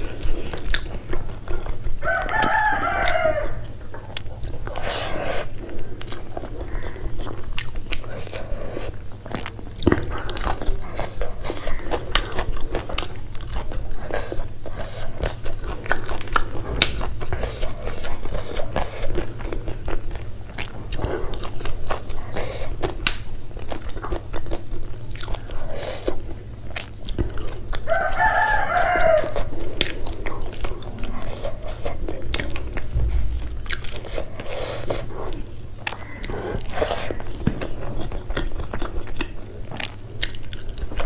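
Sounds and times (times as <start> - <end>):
person chewing rice: 0.0 - 41.0.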